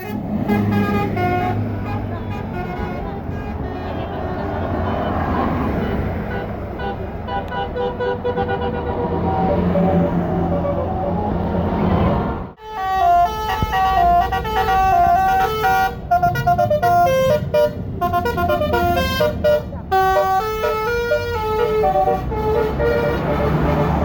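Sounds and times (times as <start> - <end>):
bus horn playing melody: 0.0 - 11.2, 12.6 - 24.0.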